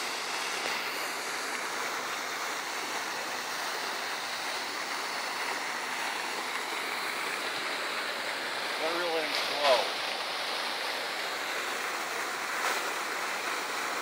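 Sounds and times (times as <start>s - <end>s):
fountain water rushing: 0.0s - 14.0s.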